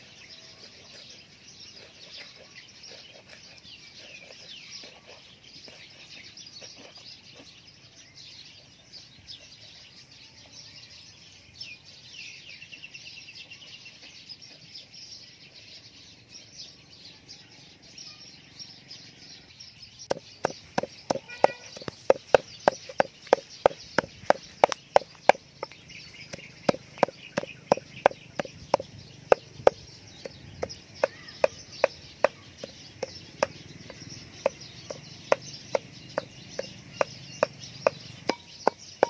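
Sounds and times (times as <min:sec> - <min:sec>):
bird trill: 0:00.0 - 0:39.0
small birds chirping: 0:00.0 - 0:39.0.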